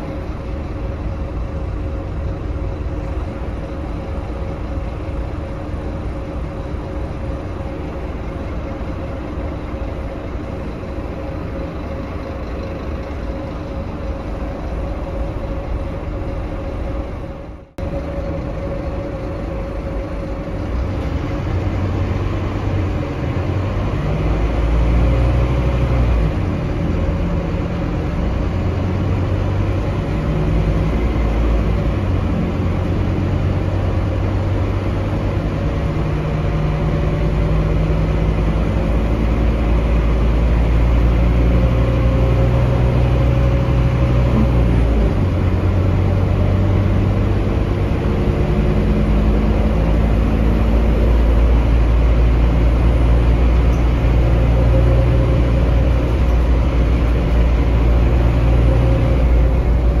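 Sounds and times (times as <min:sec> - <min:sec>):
bus diesel engine: 0:00.0 - 1:00.0
road and tyre noise: 0:00.0 - 1:00.0.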